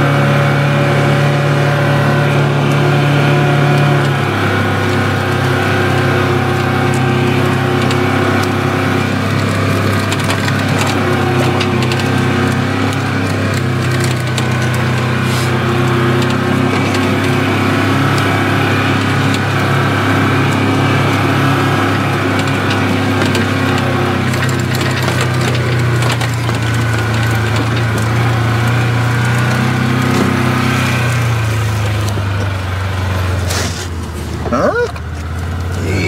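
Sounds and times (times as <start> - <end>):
utility vehicle engine running: 0.0 - 36.0.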